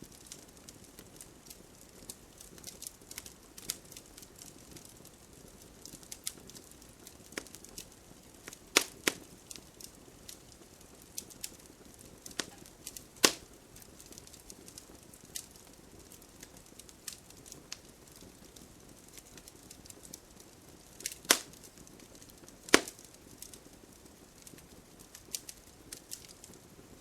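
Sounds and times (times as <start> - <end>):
campfire crackling and popping: 0.0 - 27.0
faint steady hiss: 0.0 - 27.0.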